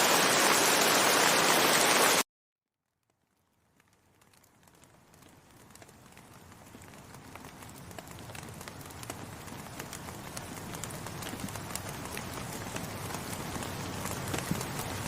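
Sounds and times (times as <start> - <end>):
rain drops ticking: 2.9 - 15.0.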